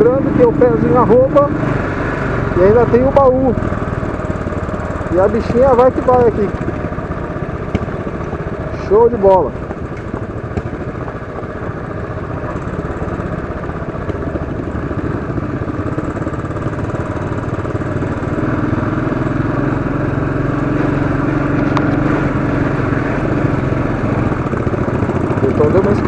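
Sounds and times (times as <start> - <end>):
motorcycle engine pulling under load: 0.0 - 26.0.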